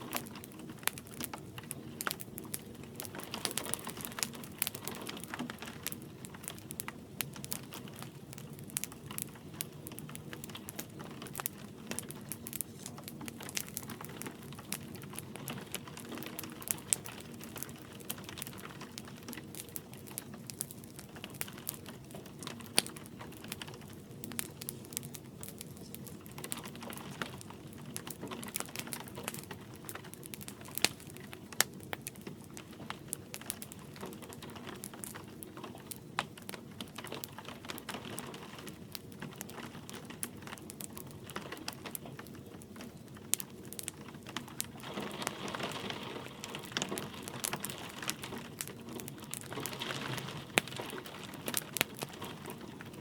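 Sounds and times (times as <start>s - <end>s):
light rain: 0.0s - 53.0s
wood fire crackling: 0.0s - 53.0s.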